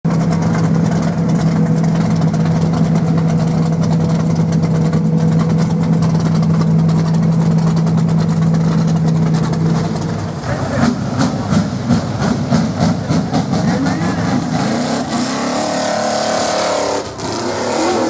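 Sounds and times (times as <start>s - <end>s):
engine idling: 0.0s - 16.3s.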